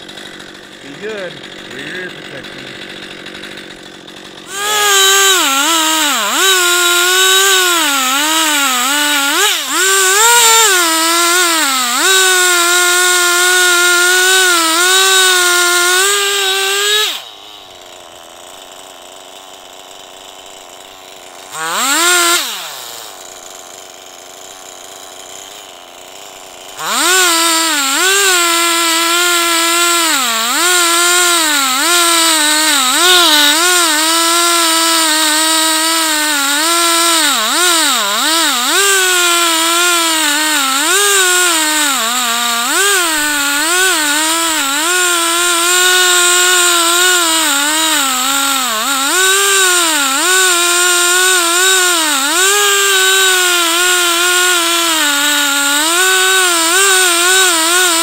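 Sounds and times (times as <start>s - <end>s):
chainsaw cutting a log: 0.0s - 58.0s.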